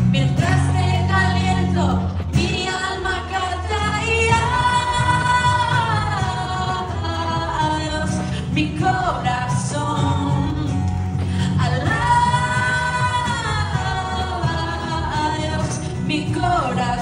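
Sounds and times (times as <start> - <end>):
women singing together: 0.0 - 10.8, 11.4 - 17.0
guitars: 0.0 - 17.0.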